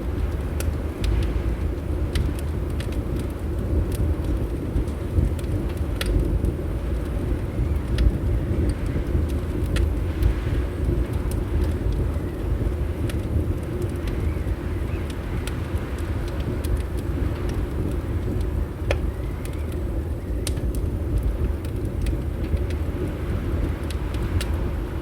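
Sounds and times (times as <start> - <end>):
fire pops and snaps: 0.0 - 25.0
low rumble of wind: 0.0 - 25.0
wood fire crackling: 0.0 - 25.0.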